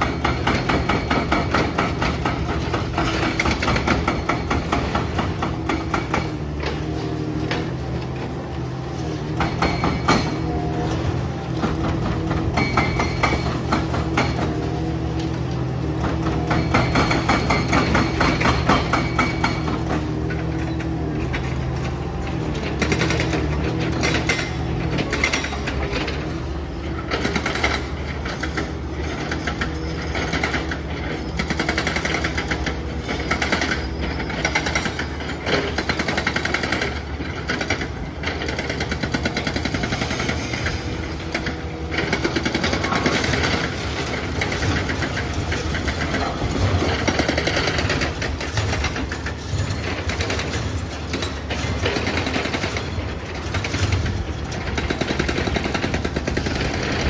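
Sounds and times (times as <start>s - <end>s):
demolition knocks and crashes: 0.0s - 57.0s
excavator diesel engines running: 0.0s - 57.0s.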